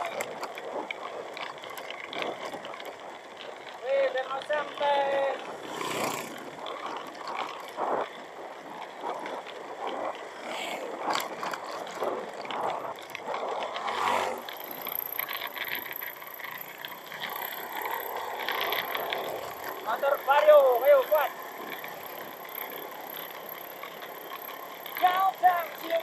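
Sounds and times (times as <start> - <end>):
scooter engine: 0.0 - 26.0.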